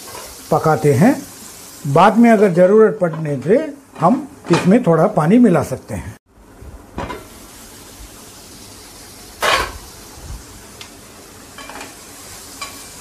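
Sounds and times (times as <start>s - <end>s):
vegetables sizzling in a pan: 0.0s - 5.6s, 6.9s - 13.0s.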